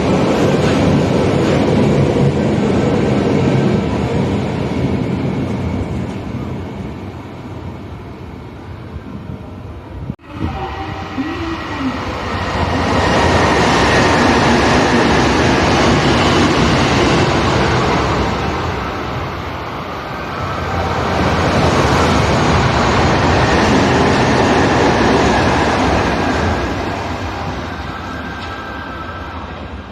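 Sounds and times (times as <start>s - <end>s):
electric train passing at speed: 0.0s - 29.9s.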